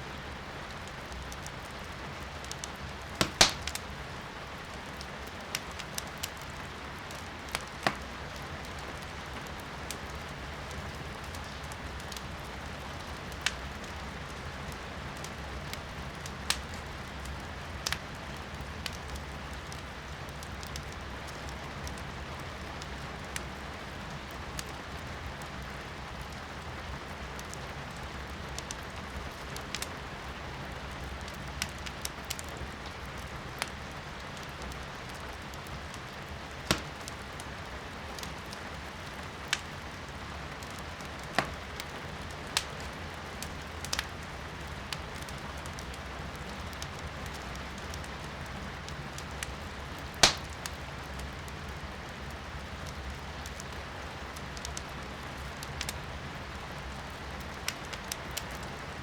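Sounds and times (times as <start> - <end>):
rain hiss from indoors: 0.0 - 59.0
firewood crackling and popping: 0.1 - 59.0.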